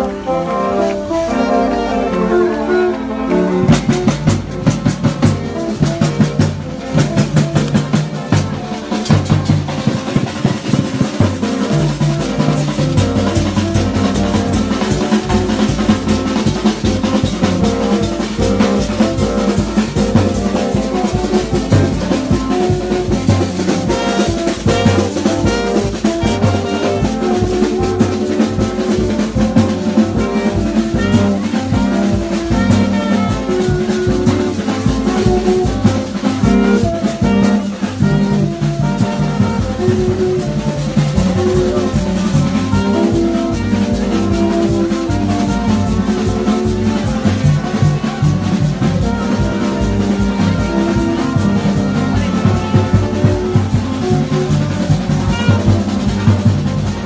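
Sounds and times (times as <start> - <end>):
drums beating a fast rhythm: 0.0 - 57.0
horns playing short notes: 0.0 - 57.0.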